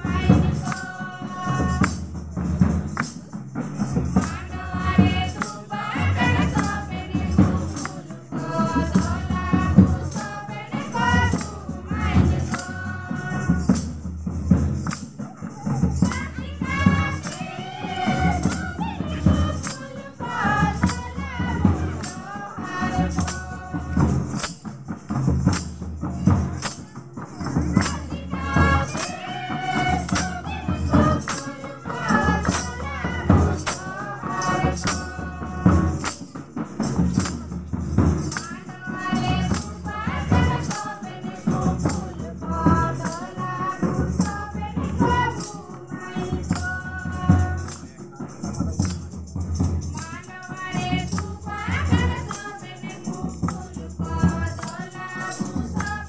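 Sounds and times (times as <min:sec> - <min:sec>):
group singing: 0:00.0 - 0:48.6, 0:49.5 - 0:56.0
hand rattles shaken: 0:00.0 - 0:56.0
steady drum beat: 0:00.0 - 0:56.0.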